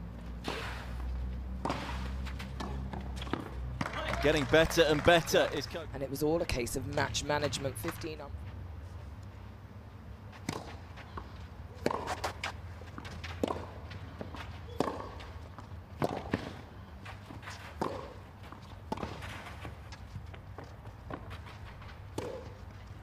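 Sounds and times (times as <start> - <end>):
tennis racquets hitting ball: 0.3 - 8.2, 10.3 - 22.7.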